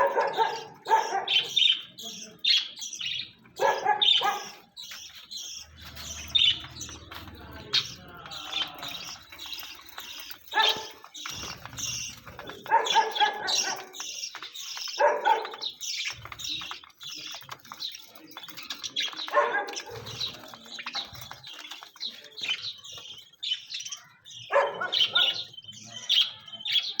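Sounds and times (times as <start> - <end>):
harsh bird calls: 0.0 - 27.0
small birds chirping: 0.0 - 27.0.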